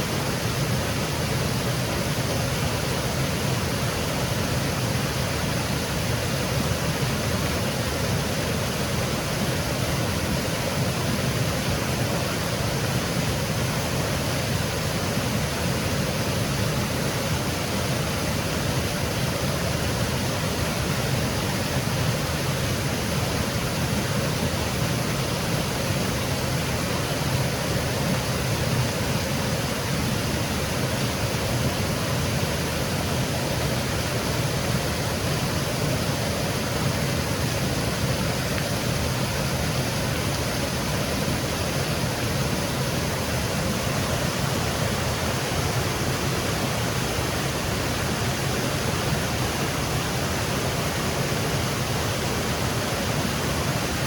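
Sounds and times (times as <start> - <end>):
small waterfall cascading: 0.0 - 54.0.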